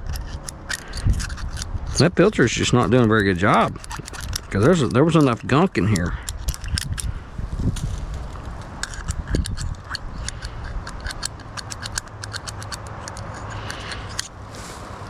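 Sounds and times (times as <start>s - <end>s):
metallic clicking of hand tool: 0.0s - 2.0s, 3.5s - 7.1s, 7.8s - 14.4s.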